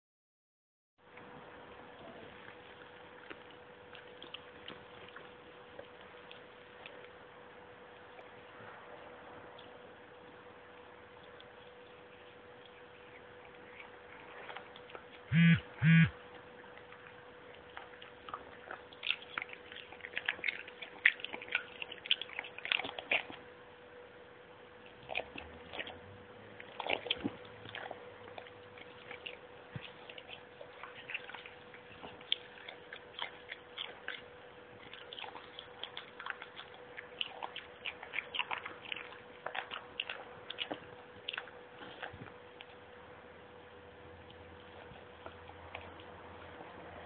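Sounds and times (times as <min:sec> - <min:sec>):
faint steady hum: 0:01.0 - 0:47.0
dog chewing with clicking teeth: 0:01.1 - 0:47.0.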